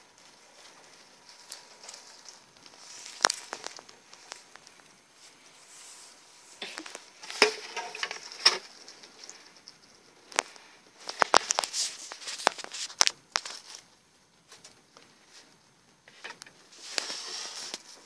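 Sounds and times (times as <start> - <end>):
rats scrabbling in shavings: 0.0 - 18.0
rustling and crackling bedding: 0.0 - 18.0.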